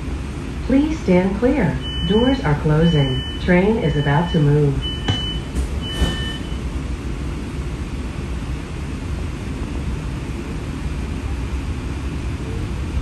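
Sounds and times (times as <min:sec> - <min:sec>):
streetcar rumble and hum: 0:00.0 - 0:13.0.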